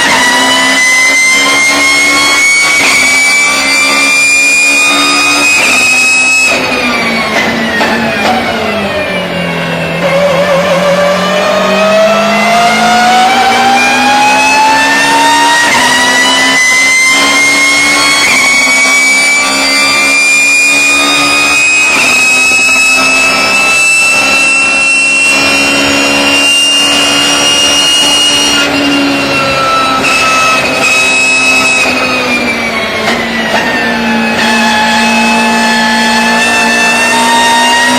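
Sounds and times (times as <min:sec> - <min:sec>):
race car engine and gearbox whine: 0:00.0 - 0:37.9.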